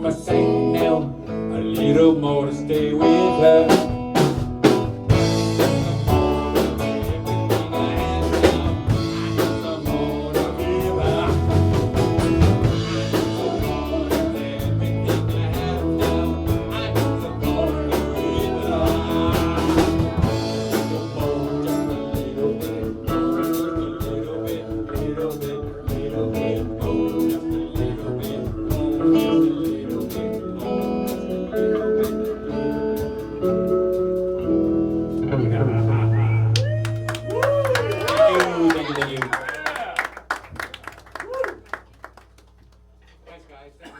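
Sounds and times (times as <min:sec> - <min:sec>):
blues band playing: 0:00.0 - 0:39.0.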